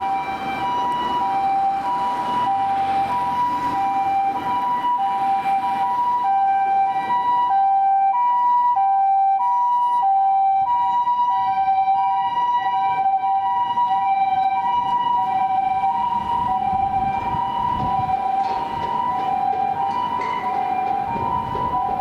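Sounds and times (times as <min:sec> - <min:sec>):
ambulance two-tone siren: 0:00.0 - 0:22.0.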